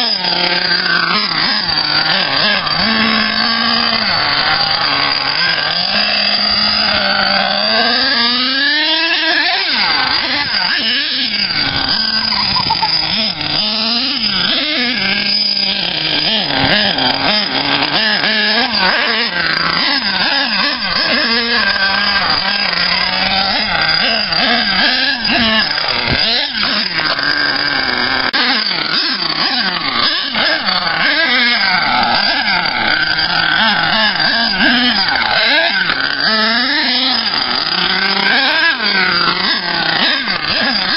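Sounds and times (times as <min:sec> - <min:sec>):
toy car engine revving: 0:00.0 - 0:40.9.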